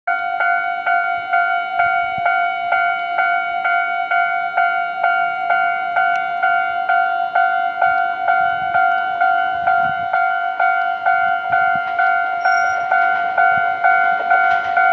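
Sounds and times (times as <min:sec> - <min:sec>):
level crossing bell ringing: 0:00.1 - 0:14.9.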